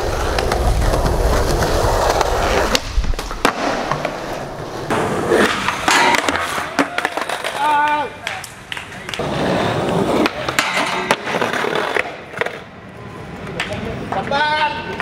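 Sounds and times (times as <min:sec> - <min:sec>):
skateboard clacking on concrete: 0:00.0 - 0:12.7
skateboard wheels rolling on concrete: 0:00.0 - 0:15.0.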